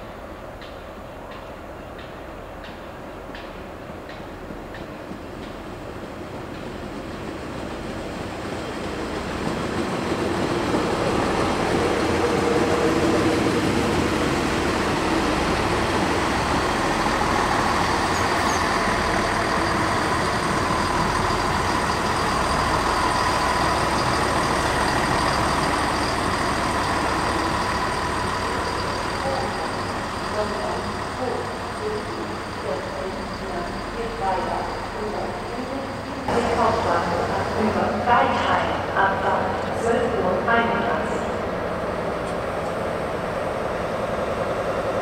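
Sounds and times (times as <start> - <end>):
diesel train engine droning: 1.1 - 45.0.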